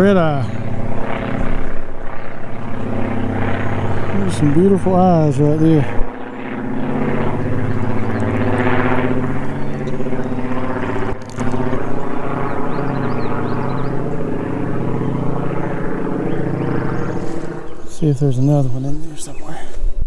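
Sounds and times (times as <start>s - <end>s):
droning engine hum: 0.0s - 20.0s.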